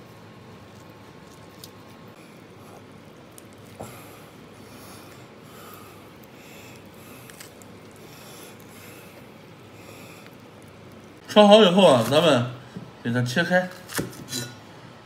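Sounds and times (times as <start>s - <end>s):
rubbing and squishing of raw meat: 0.0s - 12.4s.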